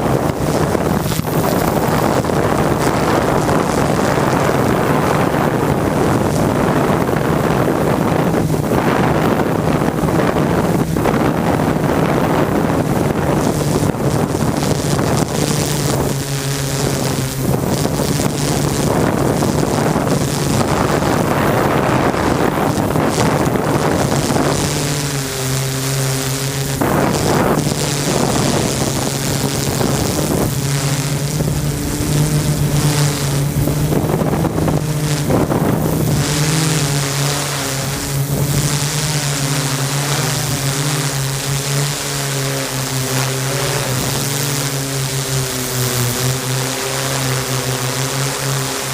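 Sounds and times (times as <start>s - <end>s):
drone propellers humming: 0.0s - 48.9s
wind noise on microphone: 0.0s - 48.9s.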